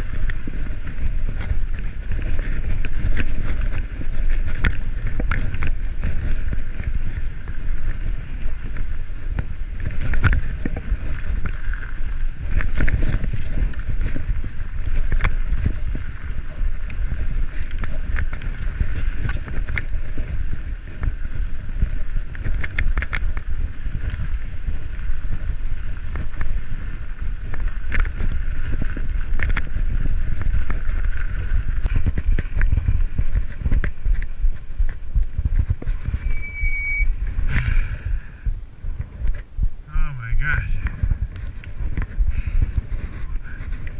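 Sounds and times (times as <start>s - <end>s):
bicycle clicks and rattles: 0.0s - 38.1s, 40.8s - 43.9s
road rumble: 0.0s - 43.9s
wind buffeting microphone: 0.0s - 43.9s.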